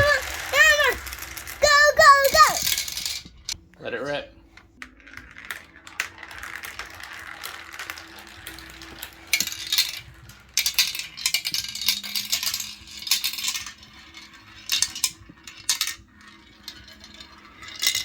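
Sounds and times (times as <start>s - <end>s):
marbles clicking and clattering: 0.0s - 3.6s, 4.6s - 18.0s
marbles rolling on track: 0.0s - 3.6s, 4.6s - 18.0s.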